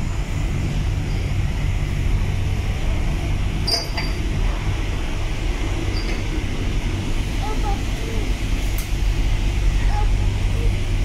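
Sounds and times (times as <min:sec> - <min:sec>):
low machinery rumble and hum: 0:00.0 - 0:11.0.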